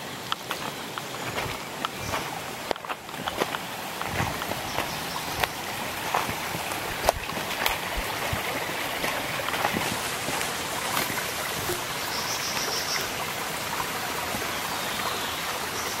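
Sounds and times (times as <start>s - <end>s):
stream running over stones: 0.0s - 16.0s.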